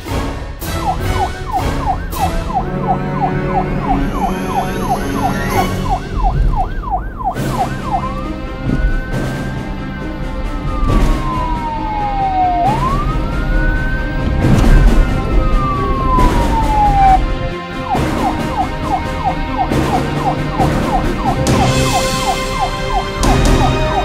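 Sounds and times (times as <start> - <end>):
police siren wailing and yelping: 0.7 - 24.0.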